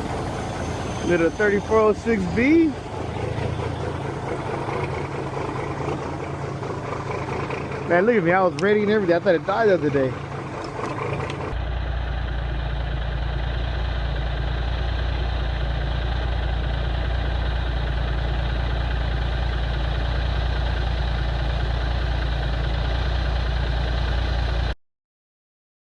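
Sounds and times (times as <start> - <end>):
diesel engine idling: 0.0 - 24.8.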